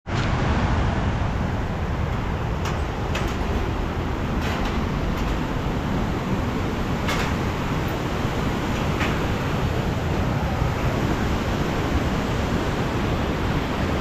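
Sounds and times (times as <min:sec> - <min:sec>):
river rushing over rocks: 0:00.2 - 0:14.0.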